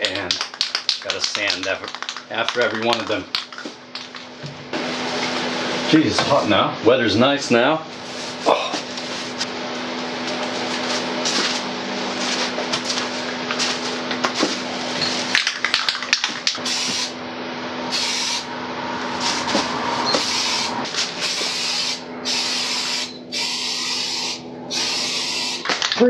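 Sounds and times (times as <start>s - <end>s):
steady low hum: 0.0s - 25.7s.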